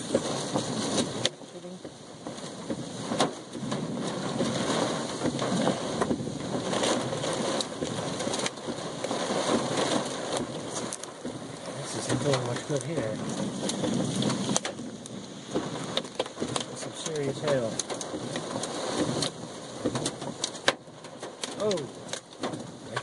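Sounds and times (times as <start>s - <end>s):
hail hitting a car: 0.0s - 23.0s
rushing rain: 0.0s - 23.0s
wind: 0.0s - 23.0s.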